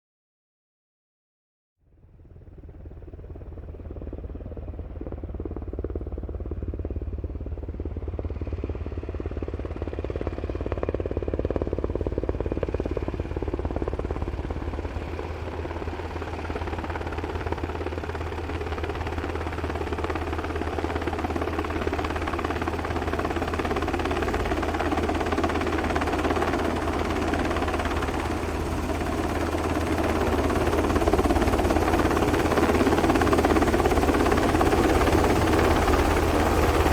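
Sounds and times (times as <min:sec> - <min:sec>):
helicopter engine and turbine: 0:01.9 - 0:36.9
helicopter rotor beating: 0:02.2 - 0:36.9.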